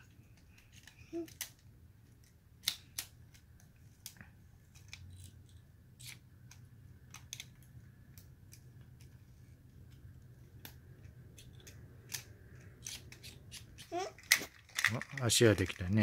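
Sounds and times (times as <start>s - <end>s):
plastic toy parts clicking: 0.0s - 9.2s, 10.6s - 16.0s.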